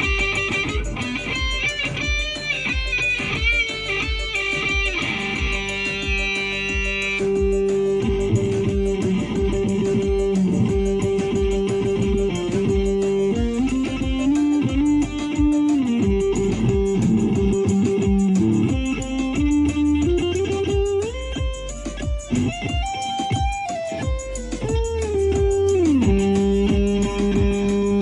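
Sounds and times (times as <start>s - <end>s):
electric guitar sliding notes: 0.0s - 28.0s.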